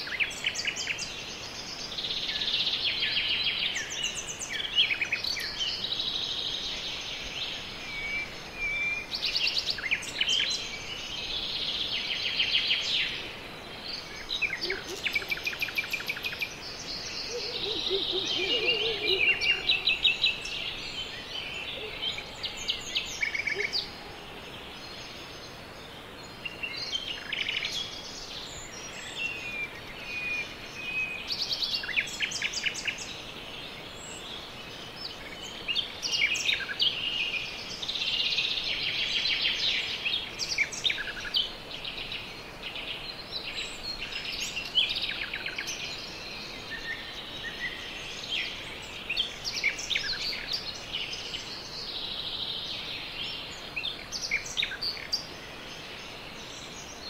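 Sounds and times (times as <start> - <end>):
birds chirping and trilling: 0.0 - 57.0
forest ambience hiss: 0.0 - 57.0.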